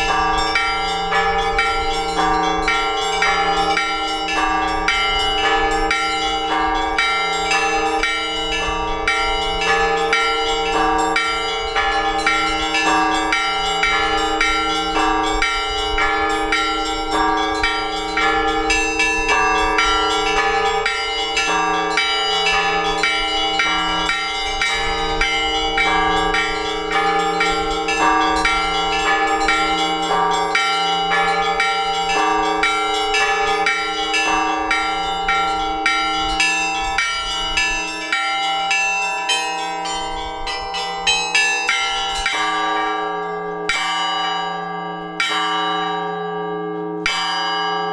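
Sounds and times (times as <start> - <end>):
large church bells ringing: 0.0 - 47.9
small chiming bells: 0.0 - 47.9.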